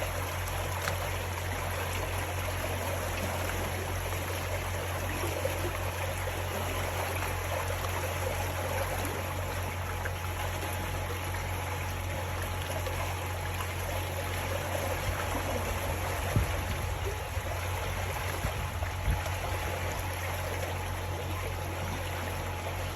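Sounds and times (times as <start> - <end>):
river water flowing: 0.0 - 22.9
steady low hum: 0.0 - 22.9.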